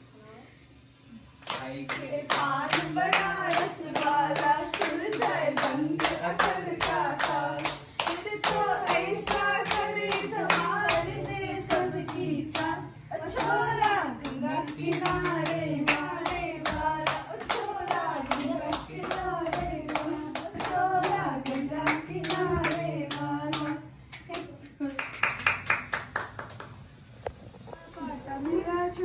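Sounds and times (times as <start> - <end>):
hands clapping: 1.4 - 26.9.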